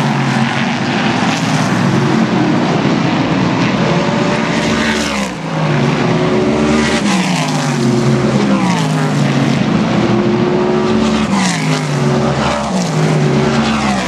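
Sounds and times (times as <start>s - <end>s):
race car engines at speed: 0.0s - 14.0s.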